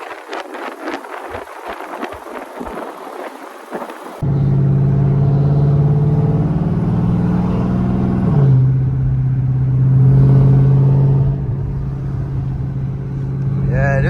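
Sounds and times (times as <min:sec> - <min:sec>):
car engine deep rumble: 0:00.0 - 0:14.0.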